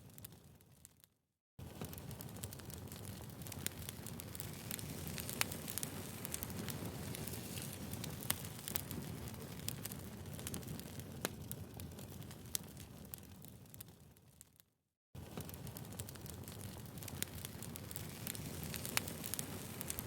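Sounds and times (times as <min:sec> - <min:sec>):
burning logs crackling and popping: 0:00.0 - 0:20.0
low rumble of flames: 0:01.6 - 0:14.6, 0:15.2 - 0:20.0.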